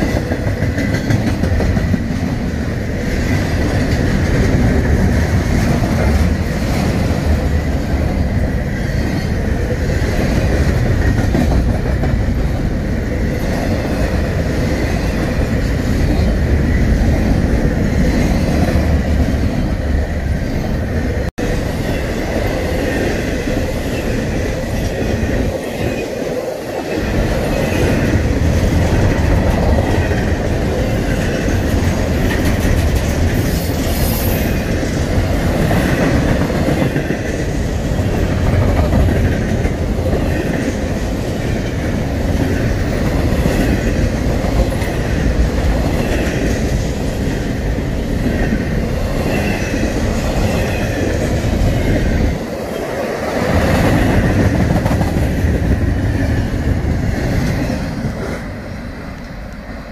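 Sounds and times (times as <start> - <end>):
steel wheels rumbling on rail: 0.0 - 59.9
wheels clickety-clack over rail joints: 0.0 - 59.9.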